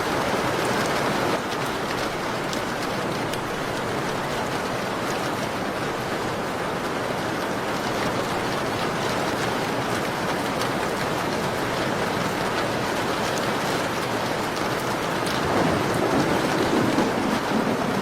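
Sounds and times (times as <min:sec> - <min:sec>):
rain falling on a window: 0:00.0 - 0:18.0.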